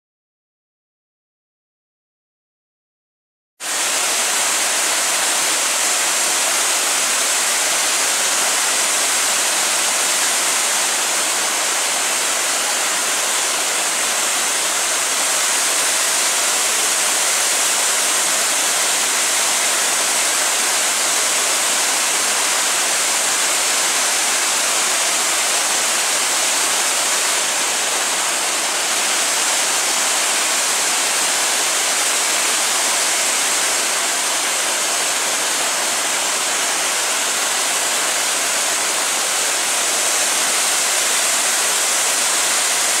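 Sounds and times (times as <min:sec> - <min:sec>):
waterfall rushing over boulders: 0:03.6 - 0:43.0.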